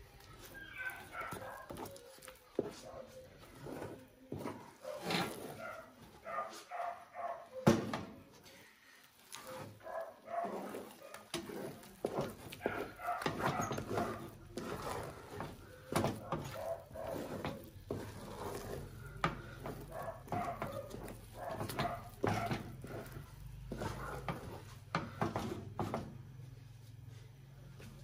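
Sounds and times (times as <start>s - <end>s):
wooden spoon stirring in pot: 0.0s - 7.0s, 8.3s - 28.0s.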